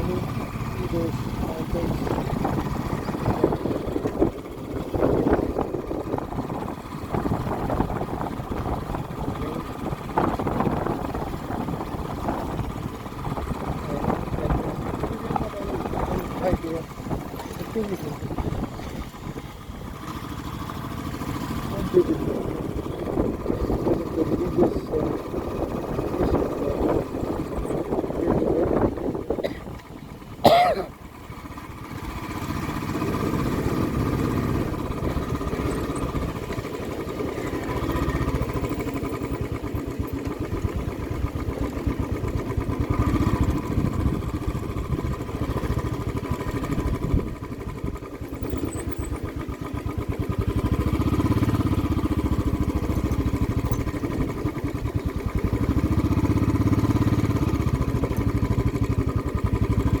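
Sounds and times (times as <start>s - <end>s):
vehicle engine running: 0.0s - 60.0s.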